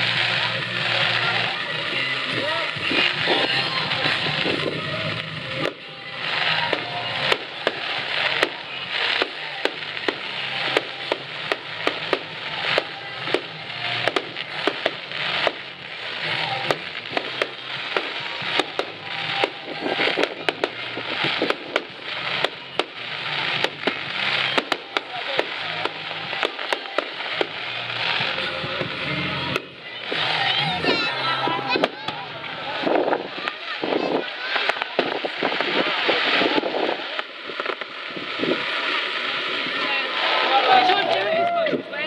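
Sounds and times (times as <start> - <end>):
crackling hiss: 0.0 - 42.0
fireworks bangs and cracks: 0.0 - 42.0.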